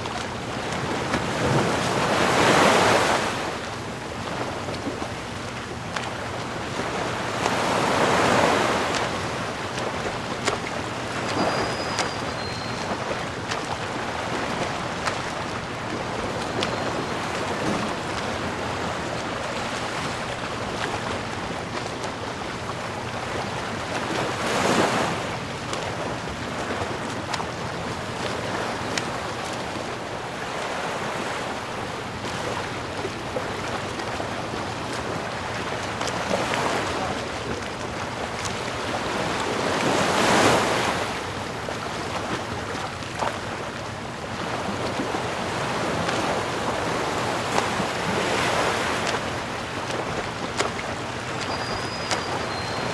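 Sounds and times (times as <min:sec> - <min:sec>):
sea waves washing: 0:00.0 - 0:52.9.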